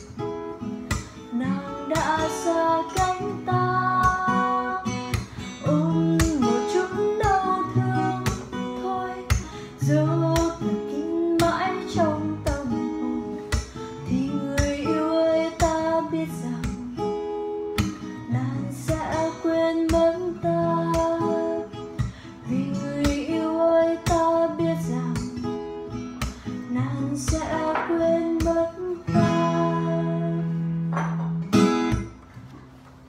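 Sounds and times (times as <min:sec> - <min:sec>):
acoustic guitar strumming: 0:00.0 - 0:33.0
woman singing: 0:01.2 - 0:25.6, 0:26.5 - 0:30.8.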